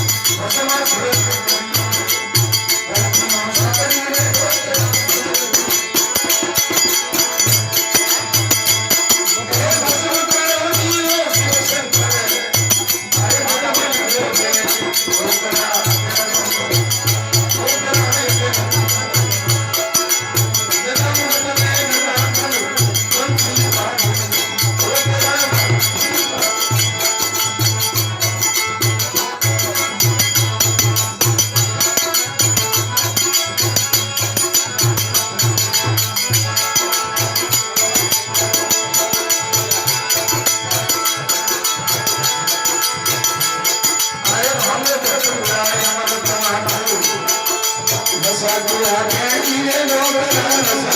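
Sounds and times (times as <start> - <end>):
driving drum beat: 0.0 - 50.9
instrumental melody: 0.0 - 50.9
jingling percussion: 0.0 - 50.9.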